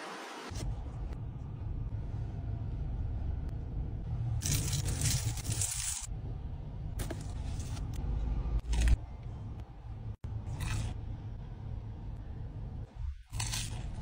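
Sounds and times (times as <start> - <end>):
steady low hum: 0.5 - 14.0.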